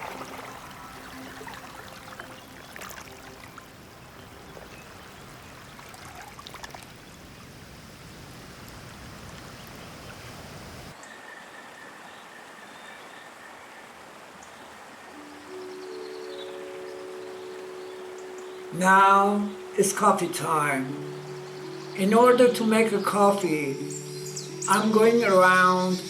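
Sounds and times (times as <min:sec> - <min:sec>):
forest stream rushing: 0:00.0 - 0:26.0.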